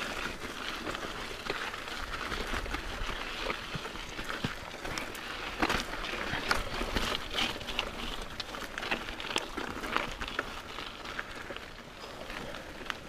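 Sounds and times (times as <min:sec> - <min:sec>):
bike clicks and rattles: 0:00.0 - 0:13.0
bike tyres on gravel: 0:00.0 - 0:13.0.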